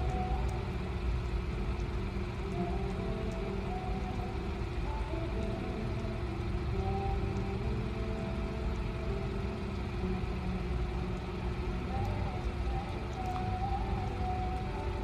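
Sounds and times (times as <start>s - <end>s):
faint wavering tones: 0.0s - 15.0s
low vehicle rumble: 0.0s - 15.0s.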